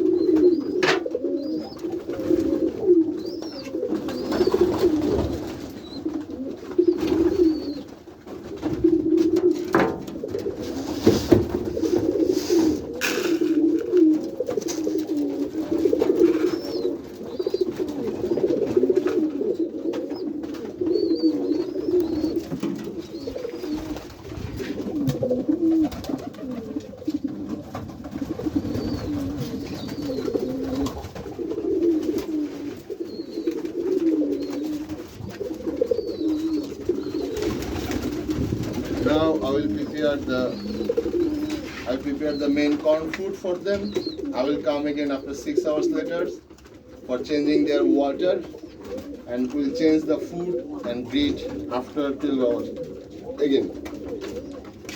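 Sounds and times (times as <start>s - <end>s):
pigeons cooing: 0.0s - 54.9s
birds knocking and rustling: 0.1s - 44.4s, 46.4s - 47.1s, 48.4s - 49.6s, 50.4s - 54.9s.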